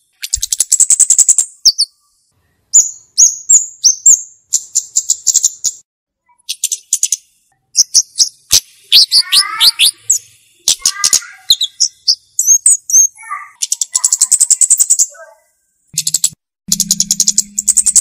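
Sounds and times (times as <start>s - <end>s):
bird chips and ticking trills: 0.0s - 2.1s, 2.8s - 18.0s.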